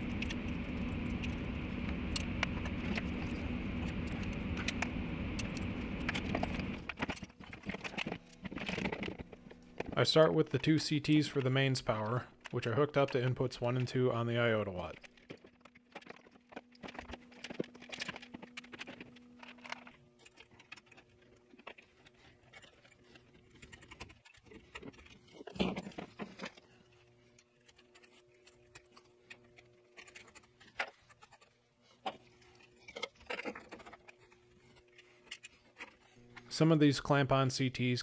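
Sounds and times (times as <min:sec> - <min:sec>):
wires rustling and clicking: 0:00.0 - 0:36.8.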